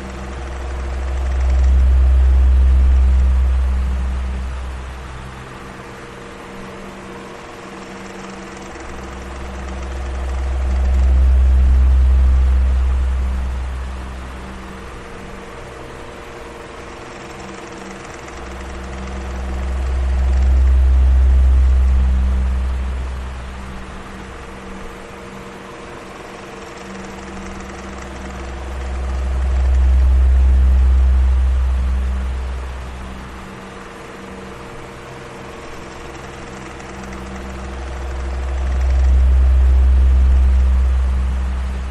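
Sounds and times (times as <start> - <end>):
deep rumble: 0.0 - 25.4, 26.1 - 41.9
electric fan humming: 0.0 - 41.9.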